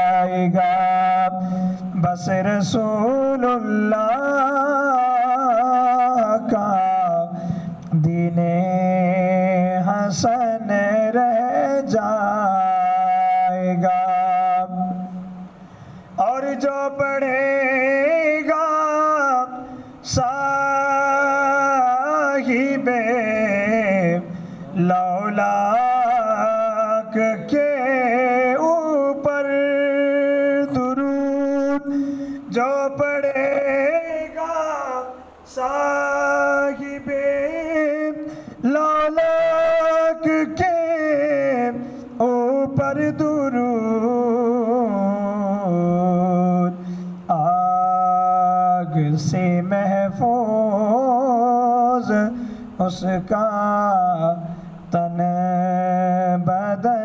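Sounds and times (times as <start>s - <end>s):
man singing unaccompanied: 0.0s - 57.0s.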